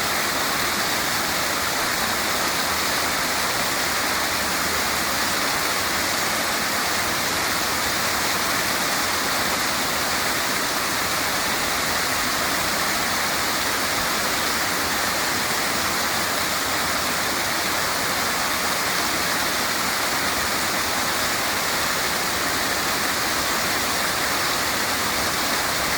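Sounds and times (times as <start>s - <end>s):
waterfall roaring: 0.0s - 25.9s.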